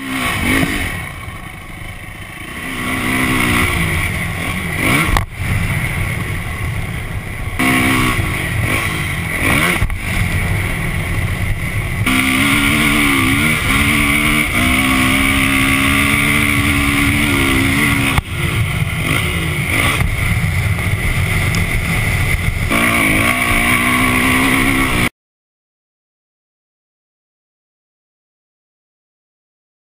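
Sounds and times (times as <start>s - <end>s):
dirt bike engine revving: 0.0s - 25.1s.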